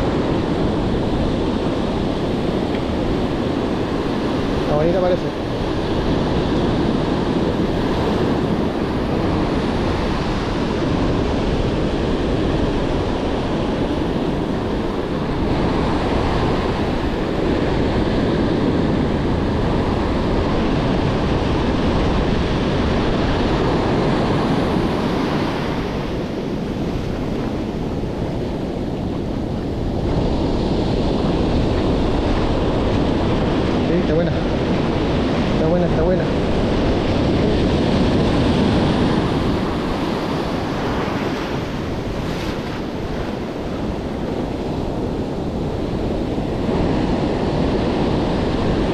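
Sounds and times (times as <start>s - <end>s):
ocean surf on beach: 0.0s - 48.9s
wind buffeting microphone: 0.0s - 48.9s.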